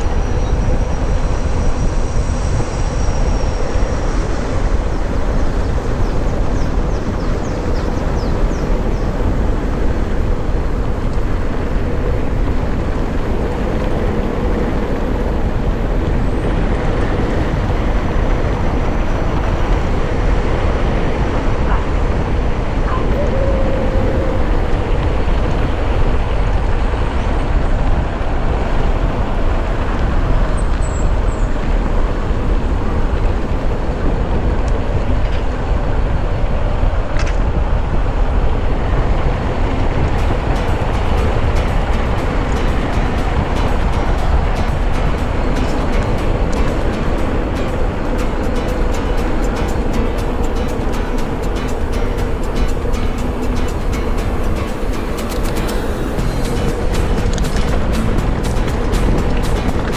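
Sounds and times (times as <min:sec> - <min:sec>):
bike tyre and frame noise: 0:00.0 - 0:35.6, 0:37.1 - 0:59.9
wind rushing on microphone: 0:00.0 - 0:59.9.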